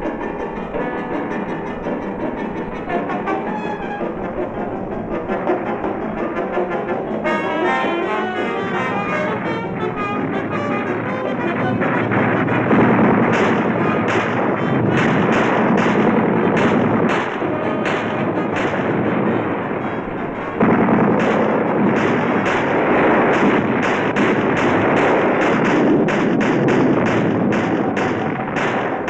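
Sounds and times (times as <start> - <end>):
gunfire and explosions: 0.0 - 29.0.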